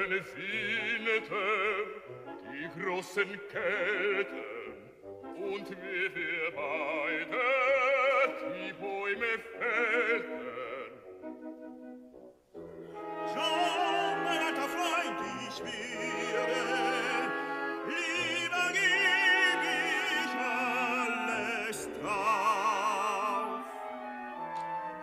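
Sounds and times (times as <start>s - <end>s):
operatic singing with vibrato: 0.0s - 11.4s, 12.9s - 25.0s
orchestra playing: 0.0s - 25.0s.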